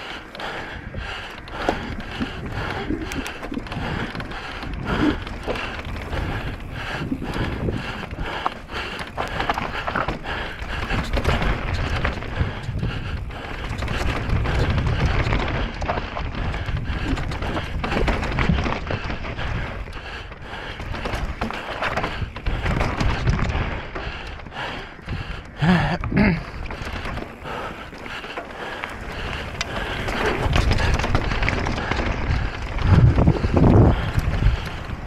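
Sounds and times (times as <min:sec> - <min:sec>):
bike rattling and knocking: 0:00.0 - 0:35.0
tyres over loose stones: 0:00.0 - 0:35.0
wind rushing over microphone: 0:00.4 - 0:28.2, 0:29.0 - 0:35.0.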